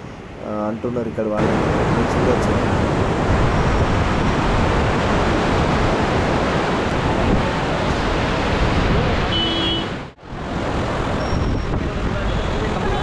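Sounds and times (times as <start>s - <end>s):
wind buffeting microphone: 1.4s - 9.3s, 10.3s - 13.0s.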